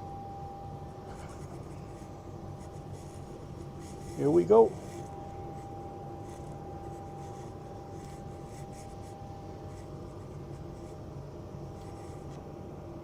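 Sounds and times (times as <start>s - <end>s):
low room hum: 0.0s - 13.0s
thin high whine: 0.0s - 13.0s.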